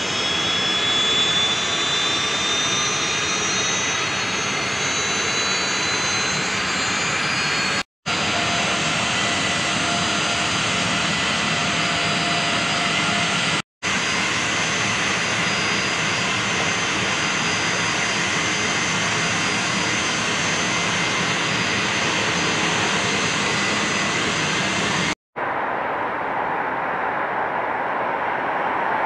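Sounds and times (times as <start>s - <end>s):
jet engines roaring and whining: 0.0s - 29.0s.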